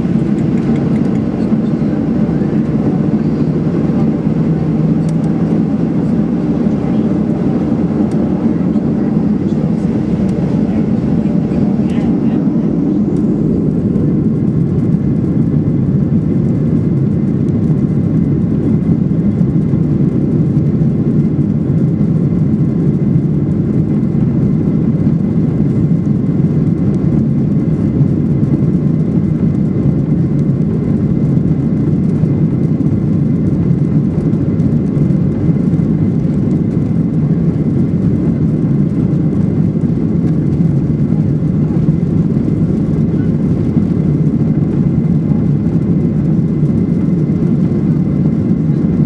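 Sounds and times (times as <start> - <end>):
jet engine cabin noise: 0.0 - 49.0.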